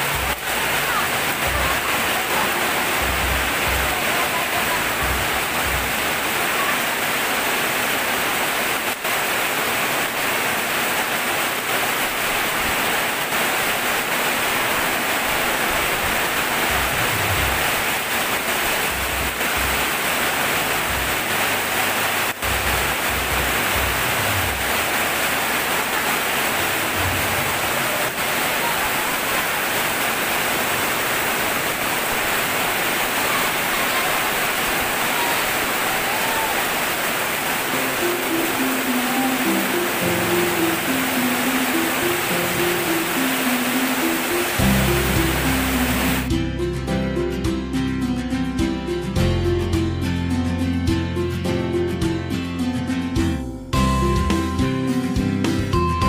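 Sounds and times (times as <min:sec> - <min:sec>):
heavy rain hissing: 0:00.0 - 0:46.4.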